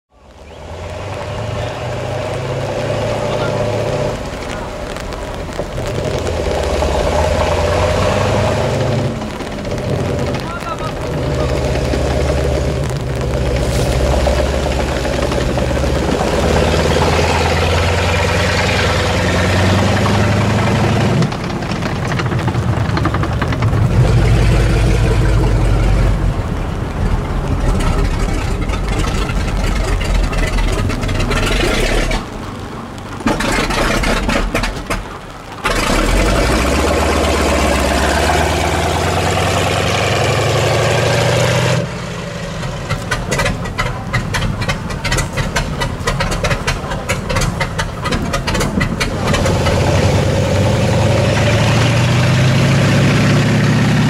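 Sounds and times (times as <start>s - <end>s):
tank radial engine running: 0.2s - 54.0s.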